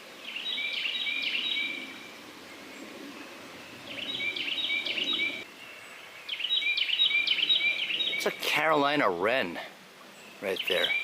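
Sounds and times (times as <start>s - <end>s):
wren singing: 0.2s - 11.0s.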